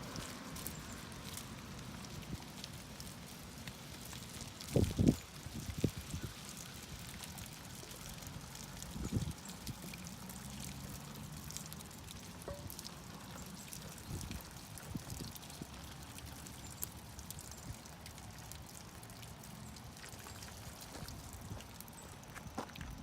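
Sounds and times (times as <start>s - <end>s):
water splattering on car bumper: 0.0s - 23.0s.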